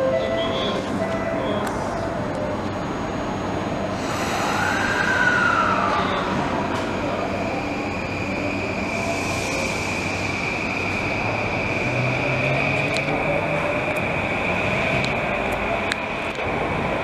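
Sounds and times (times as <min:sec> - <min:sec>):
train high whine: 0:00.0 - 0:17.0
train hum: 0:00.0 - 0:17.0.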